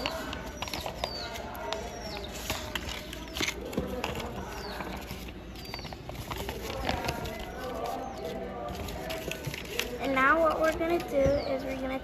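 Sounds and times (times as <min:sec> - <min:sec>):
birds chirping: 0:00.0 - 0:12.0
paper being folded and creased: 0:00.0 - 0:12.0.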